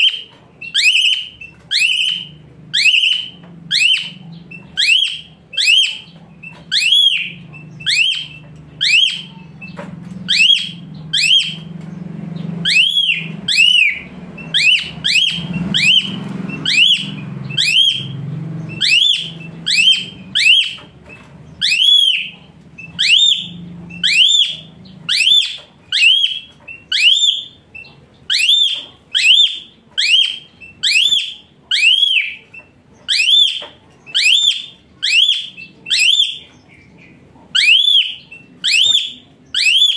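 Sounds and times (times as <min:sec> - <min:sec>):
starling whistled calls: 0:00.0 - 0:11.7, 0:12.6 - 0:39.9.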